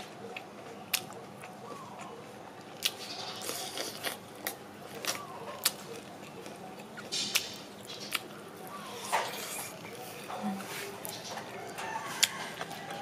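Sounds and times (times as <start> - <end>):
crunchy chewing of fried chicken: 0.0 - 13.0.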